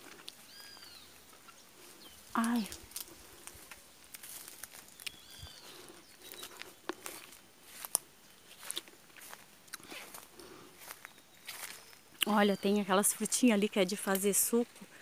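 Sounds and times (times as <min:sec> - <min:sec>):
foliage brushing: 0:00.0 - 0:15.0
footsteps on dry grass and leaves: 0:00.0 - 0:15.0.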